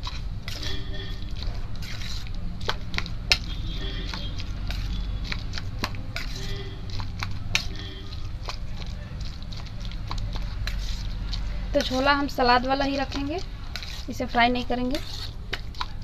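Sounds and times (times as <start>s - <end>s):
metal spoon scraping steel bowl: 0.0s - 16.0s.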